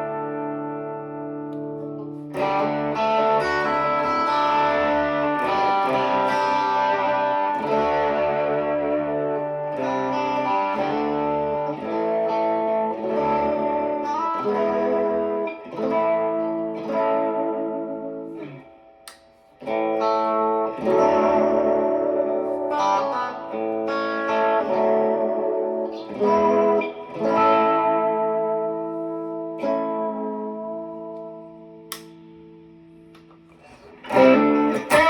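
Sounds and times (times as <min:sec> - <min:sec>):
electric guitar playing: 0:00.0 - 0:35.0.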